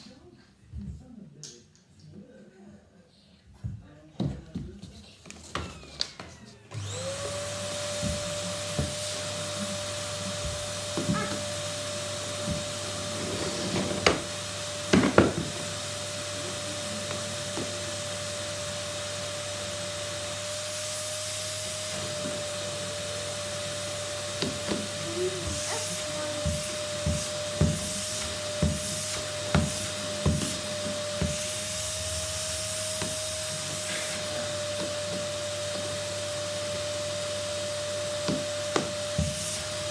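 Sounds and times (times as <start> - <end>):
vacuum cleaner motor running: 5.4 - 39.9.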